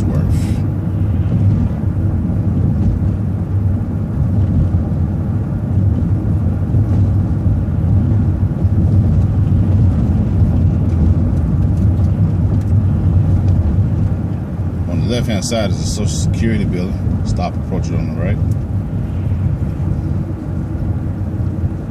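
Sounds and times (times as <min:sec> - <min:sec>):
bus engine drone: 0:00.0 - 0:21.9
road noise: 0:00.0 - 0:21.9.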